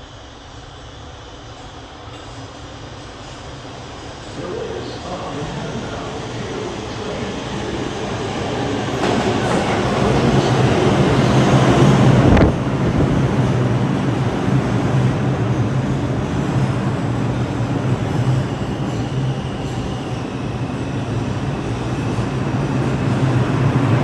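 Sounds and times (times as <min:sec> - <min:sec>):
train wheels on rails: 0:01.5 - 0:24.0.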